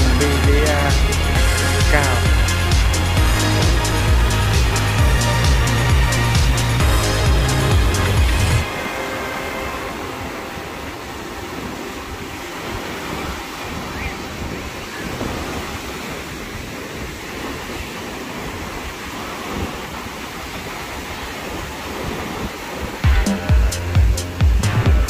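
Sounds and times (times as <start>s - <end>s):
surf breaking on beach: 0.0s - 25.0s
wind gusting on microphone: 0.0s - 25.0s.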